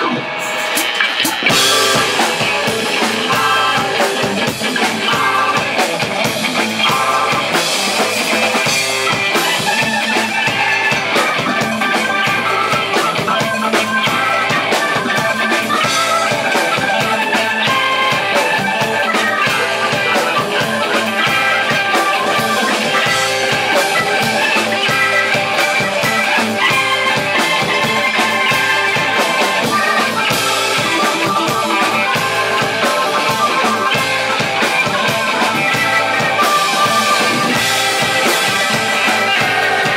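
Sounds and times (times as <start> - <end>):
drum kit: 0.0 - 39.9
electric guitar: 0.0 - 39.9
organ: 0.0 - 39.9
electric bass: 1.4 - 39.9.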